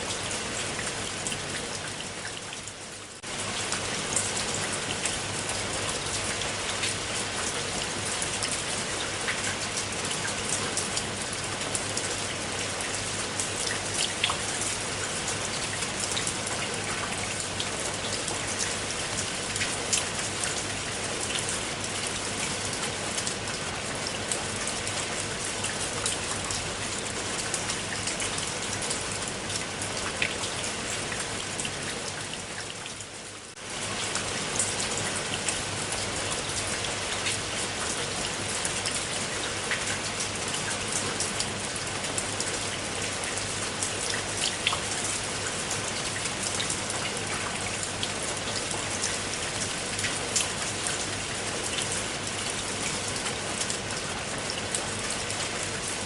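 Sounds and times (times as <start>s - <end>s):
rain drops ticking on a surface: 0.0s - 56.0s.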